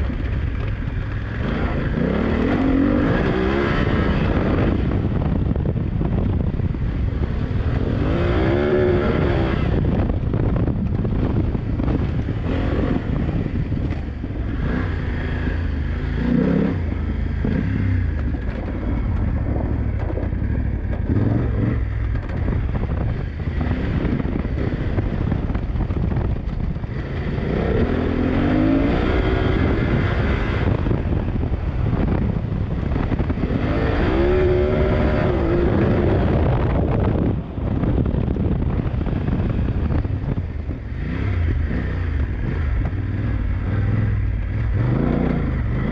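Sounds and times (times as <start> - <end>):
motorcycle engine revving: 0.0 - 45.9
wind buffeting microphone: 0.0 - 45.9.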